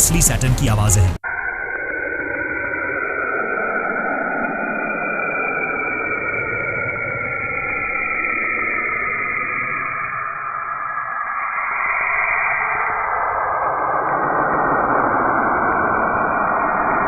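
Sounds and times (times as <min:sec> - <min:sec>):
eerie hiss: 0:00.0 - 0:17.0
faint falling whistling tones: 0:01.2 - 0:17.0.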